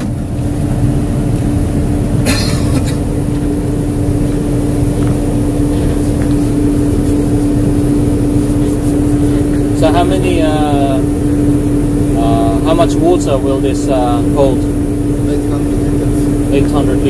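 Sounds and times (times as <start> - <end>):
street sweeper machinery droning: 0.0 - 17.0.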